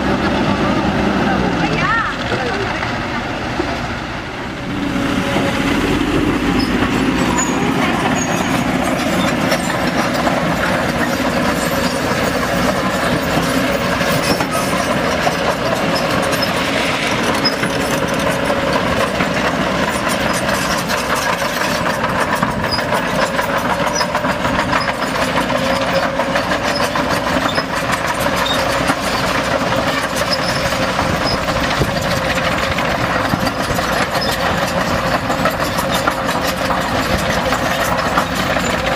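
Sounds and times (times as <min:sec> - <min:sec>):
loud diesel engine running: 0:00.0 - 0:38.9.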